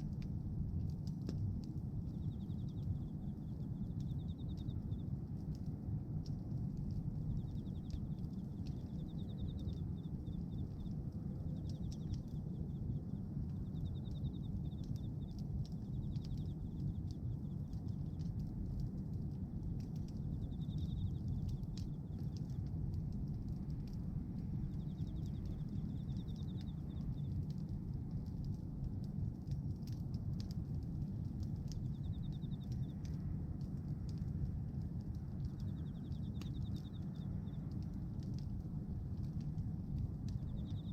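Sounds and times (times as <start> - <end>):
bonfire flames rushing: 0.0 - 40.9
fire crackling and popping: 0.0 - 40.9.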